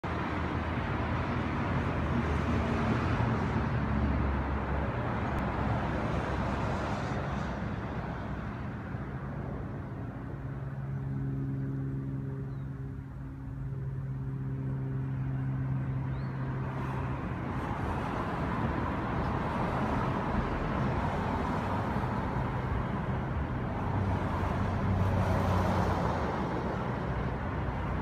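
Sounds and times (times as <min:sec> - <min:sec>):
low engine hum: 0:00.0 - 0:28.0
vehicle passing: 0:00.1 - 0:28.0.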